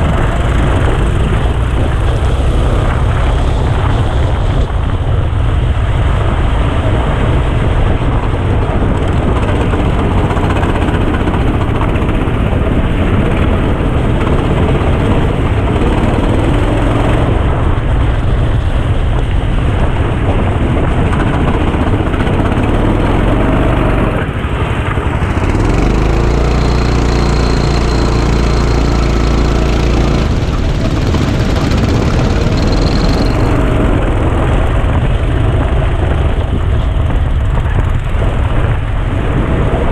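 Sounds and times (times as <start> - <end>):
dense wash of noise: 0.0 - 39.9
go-kart engine running: 0.0 - 39.9.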